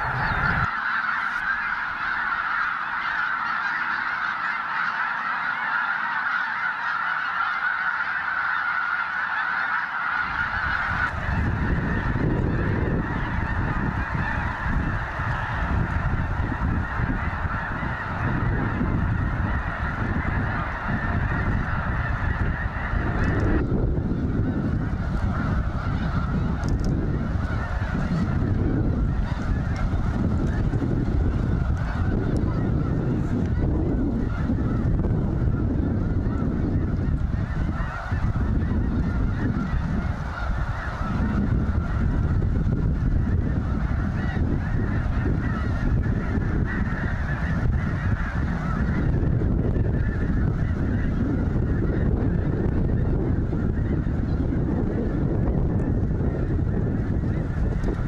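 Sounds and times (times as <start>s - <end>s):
flock of geese honking: 0.0s - 58.0s.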